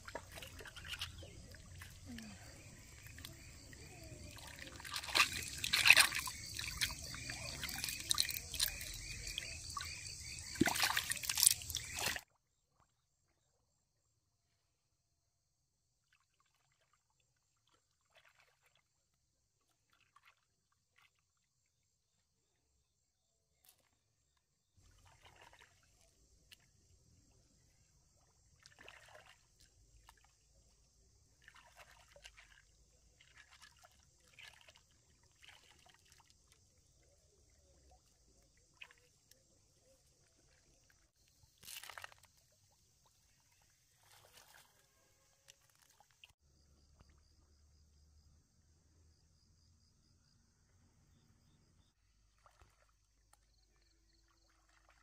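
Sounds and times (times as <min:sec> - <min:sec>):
water sloshing and trickling: 0:00.0 - 0:14.1, 0:15.6 - 0:47.6, 0:52.0 - 0:55.0.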